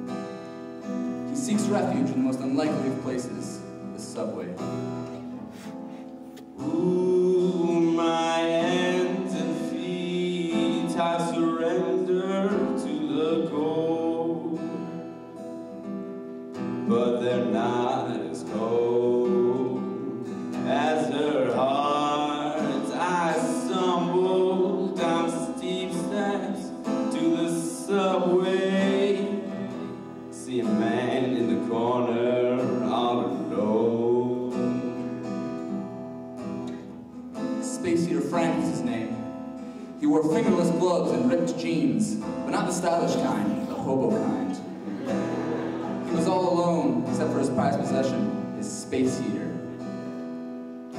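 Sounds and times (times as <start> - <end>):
acoustic guitar strumming: 0.0 - 50.9
man singing: 1.2 - 4.6, 6.6 - 15.2, 16.8 - 35.4, 37.5 - 39.4, 40.0 - 49.9.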